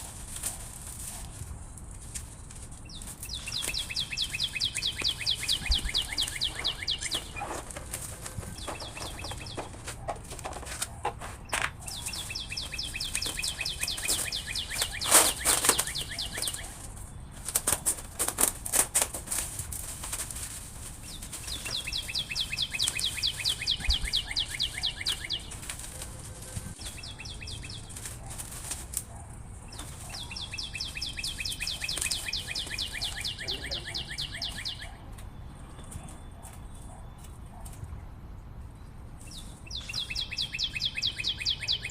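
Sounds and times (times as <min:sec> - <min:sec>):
sharp rustling clicks: 0:00.0 - 0:37.9
canary singing trills: 0:02.8 - 0:18.8, 0:21.0 - 0:37.7, 0:39.2 - 0:41.9.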